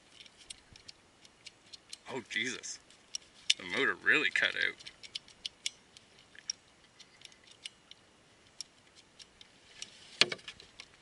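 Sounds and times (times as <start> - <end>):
faint light clicks and ticks: 0.0 - 11.0.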